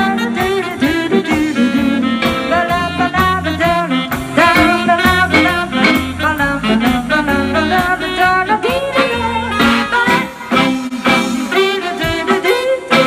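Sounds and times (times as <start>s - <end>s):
walking bass: 0.0s - 12.9s
jazz band playing swing: 0.0s - 13.0s
steady drum beat: 0.0s - 13.0s.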